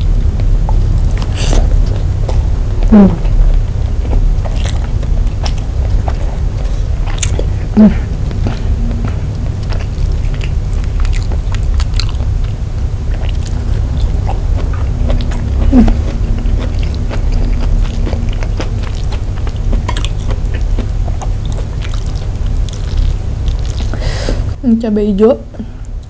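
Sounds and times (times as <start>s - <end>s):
steady low rumble: 0.0s - 26.0s
wet chewing mouth sounds: 0.3s - 24.6s.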